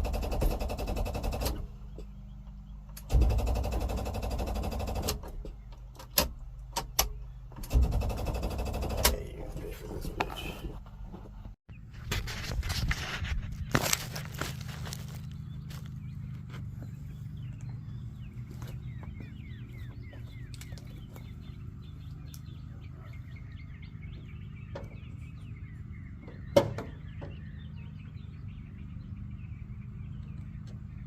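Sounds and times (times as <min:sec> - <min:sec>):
small birds chirping: 0:00.0 - 0:03.7, 0:04.7 - 0:07.6, 0:08.2 - 0:12.6, 0:13.4 - 0:31.0
car engine idling: 0:00.0 - 0:11.6, 0:14.2 - 0:31.0.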